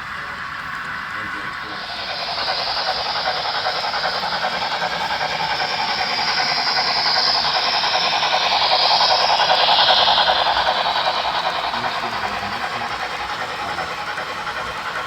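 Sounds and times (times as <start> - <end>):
model train rattling on track: 0.0 - 15.0.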